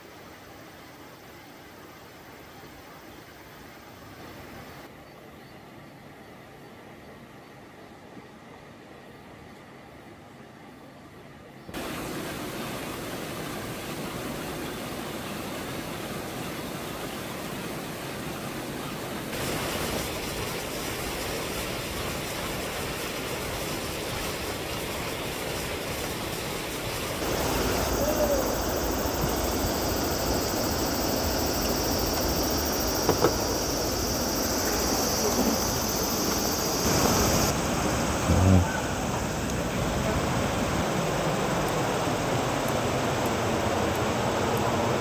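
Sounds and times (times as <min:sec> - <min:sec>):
rushing stream water: 0:00.0 - 0:05.3, 0:08.2 - 0:45.0
high steady hiss: 0:00.0 - 0:45.0.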